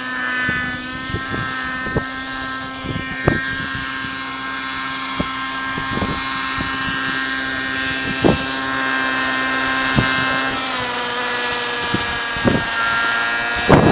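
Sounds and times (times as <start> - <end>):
model helicopter engine whine: 0.0 - 13.9.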